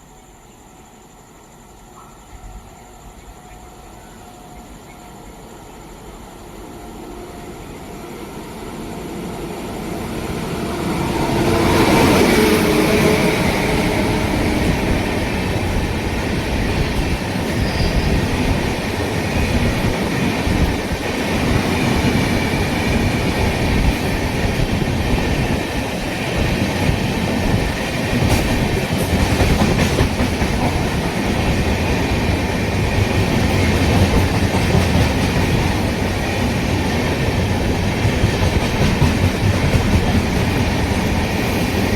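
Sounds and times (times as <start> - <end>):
train passing at speed: 0.0 - 41.9
steel wheels rumbling on rail: 7.2 - 41.9.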